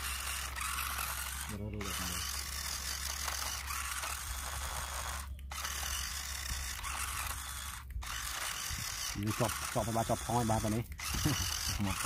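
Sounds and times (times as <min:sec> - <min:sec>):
toy electric motor whirring: 0:00.0 - 0:12.0.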